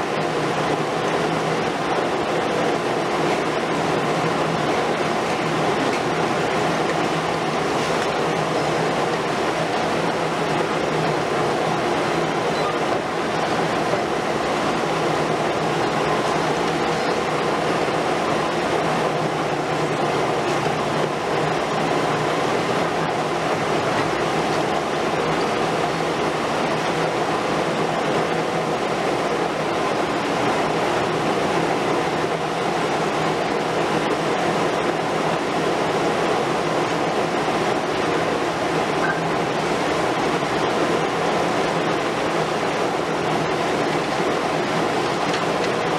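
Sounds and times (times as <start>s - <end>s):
excavator diesel engine and hydraulics: 0.0s - 45.9s.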